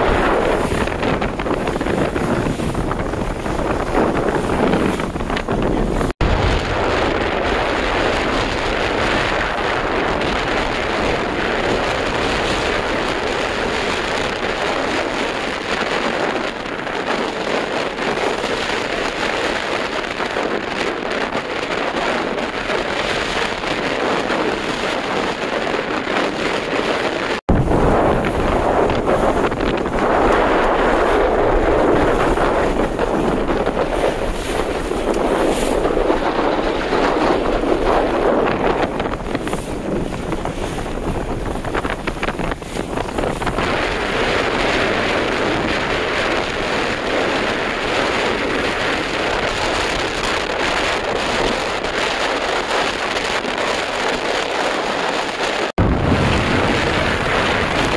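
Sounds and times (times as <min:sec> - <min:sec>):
waves washing: 0:00.0 - 0:57.9
wind buffeting microphone: 0:00.0 - 0:57.9.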